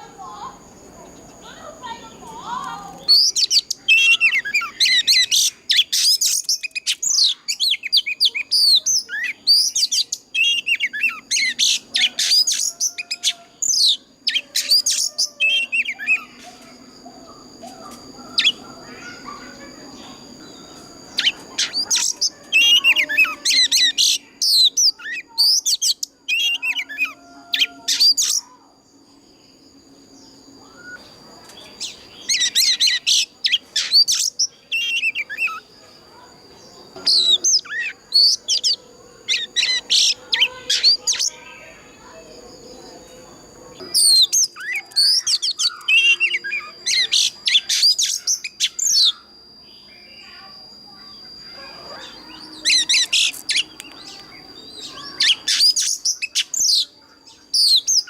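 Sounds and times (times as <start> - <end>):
bird singing whistles and trills: 2.5 - 58.0.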